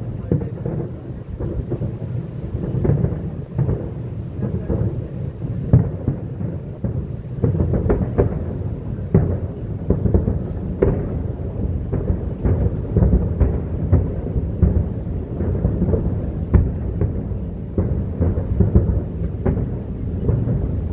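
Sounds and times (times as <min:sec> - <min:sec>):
distant fireworks bursting: 0:00.0 - 0:20.9.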